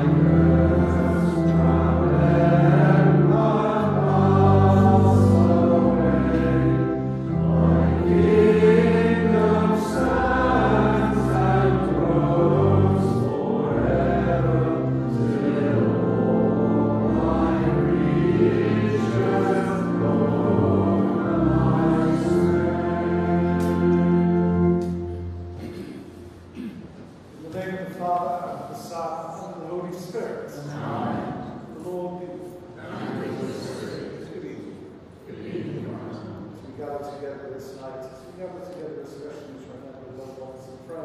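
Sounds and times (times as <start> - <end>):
voices singing a hymn: 0.0 - 26.6, 27.5 - 41.0
held accompanying chords: 0.0 - 41.0.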